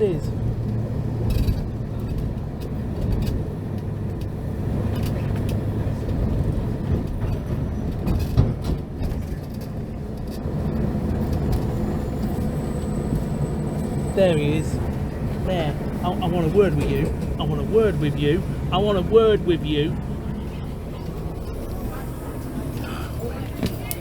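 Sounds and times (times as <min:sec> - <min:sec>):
bus engines running: 0:00.0 - 0:24.0
road traffic rumble: 0:00.0 - 0:24.0.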